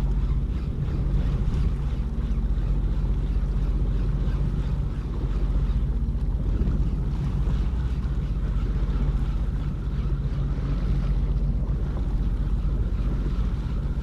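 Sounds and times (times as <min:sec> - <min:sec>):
jet ski engine running: 0:00.0 - 0:14.0
wind noise on microphone: 0:00.0 - 0:14.0.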